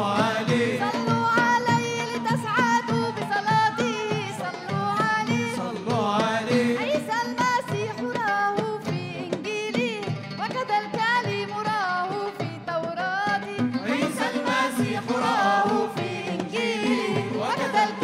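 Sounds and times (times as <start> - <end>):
woman singing devotional song: 0.0 - 18.0.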